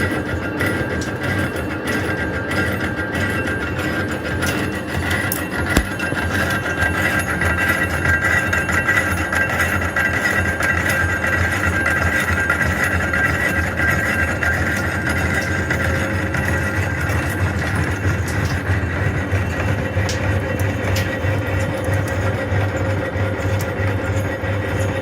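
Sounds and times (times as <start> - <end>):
metal lathe running: 0.0 - 25.0.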